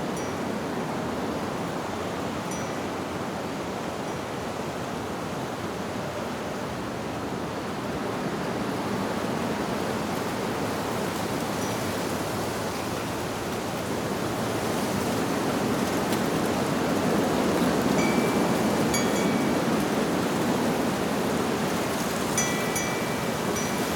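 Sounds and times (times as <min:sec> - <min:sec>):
wind rustling leaves: 0:00.0 - 0:23.9.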